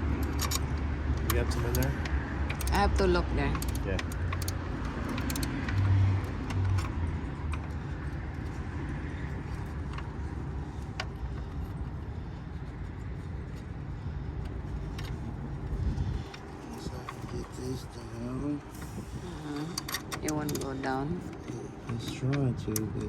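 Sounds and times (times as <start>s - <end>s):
low vehicle rumble: 0.0s - 23.0s.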